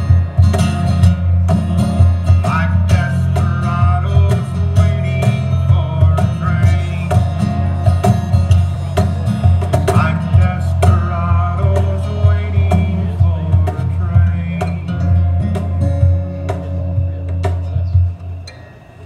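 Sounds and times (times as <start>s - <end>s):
cajon tapping: 0.0s - 18.5s
acoustic guitar country song: 0.0s - 18.6s.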